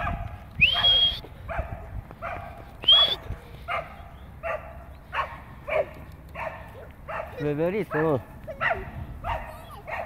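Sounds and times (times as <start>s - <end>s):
dog yapping: 0.0s - 10.0s.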